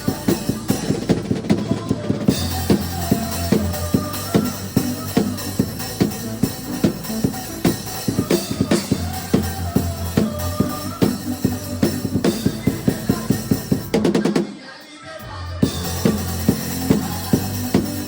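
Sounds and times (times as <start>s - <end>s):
band music: 0.0s - 14.5s, 15.5s - 18.0s.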